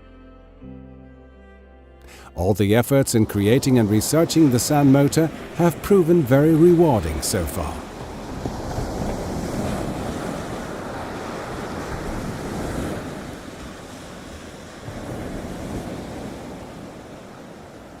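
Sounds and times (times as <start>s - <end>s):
wind: 2.2s - 18.0s
waves washing onto shore: 2.8s - 18.0s.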